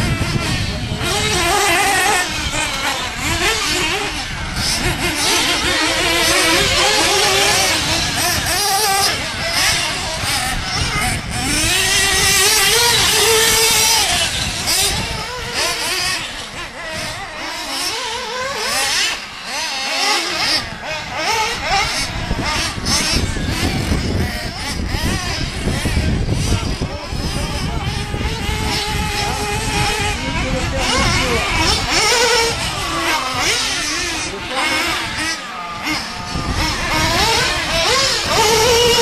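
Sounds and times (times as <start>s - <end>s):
model car engine revving: 0.0s - 39.0s.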